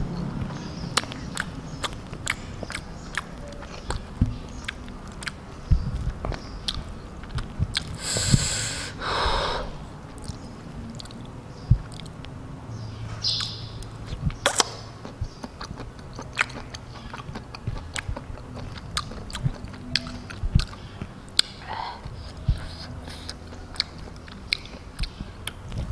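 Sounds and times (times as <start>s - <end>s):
chewing: 0.1s - 8.1s, 10.1s - 12.4s, 13.4s - 25.9s.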